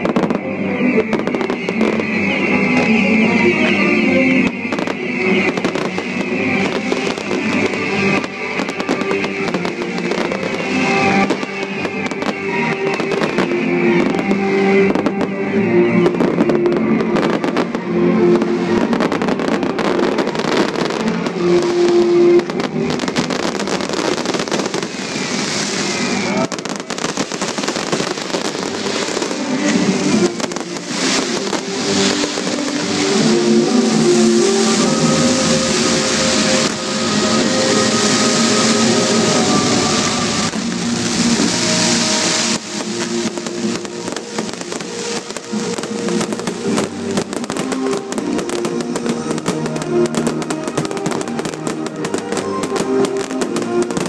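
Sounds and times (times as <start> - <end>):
firework rockets bursting: 0.0 - 54.0
loud music with sustained notes: 0.0 - 54.0.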